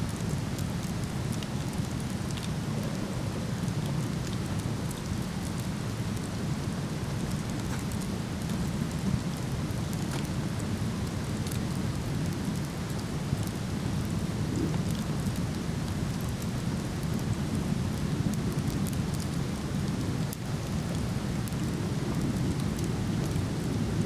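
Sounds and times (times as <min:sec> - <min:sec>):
wood fire crackling: 0:00.1 - 0:24.0.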